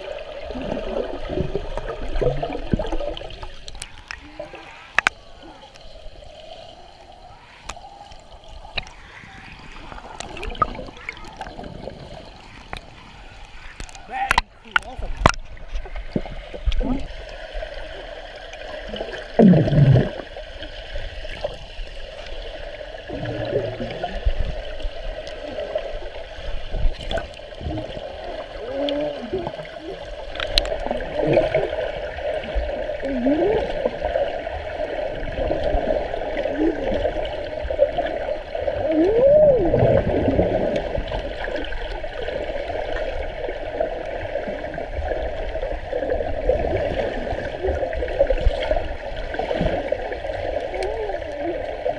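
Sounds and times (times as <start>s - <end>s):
bubbling and gurgling: 0.0s - 51.9s
muffled underwater rush: 0.0s - 51.9s.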